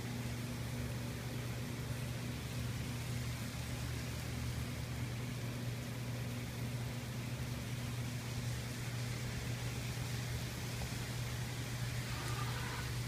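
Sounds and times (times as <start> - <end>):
low electric hum with hiss: 0.0 - 13.0.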